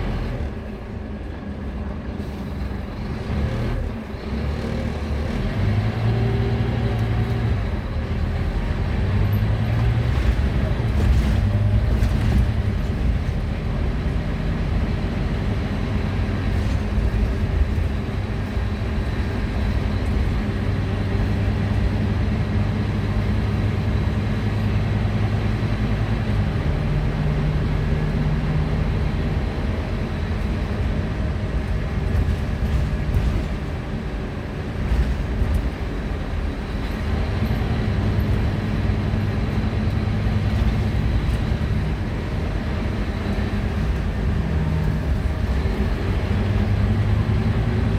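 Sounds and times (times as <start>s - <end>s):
bus diesel engine running: 0.0s - 47.9s
road and body noise: 0.0s - 47.9s.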